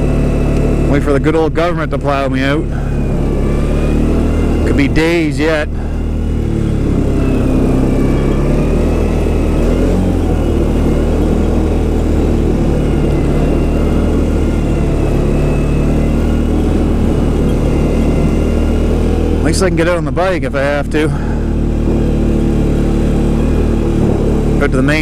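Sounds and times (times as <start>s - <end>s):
atv engine idling: 0.0s - 25.0s.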